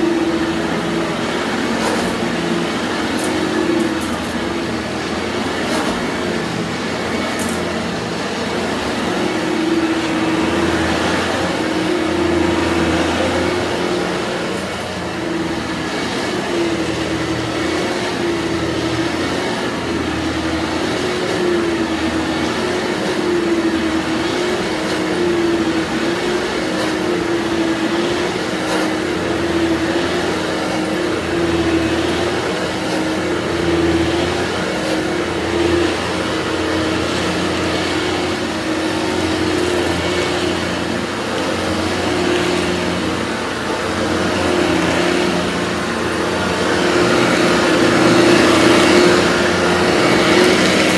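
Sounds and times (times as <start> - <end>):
upright vacuum cleaner running: 0.0 - 50.9.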